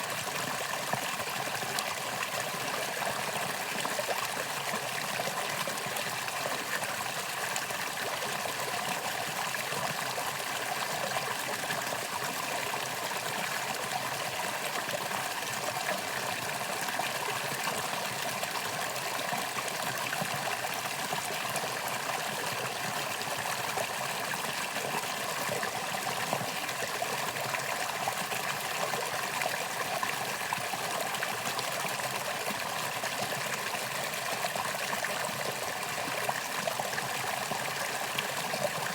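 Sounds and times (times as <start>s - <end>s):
stream water running: 0.0s - 38.9s.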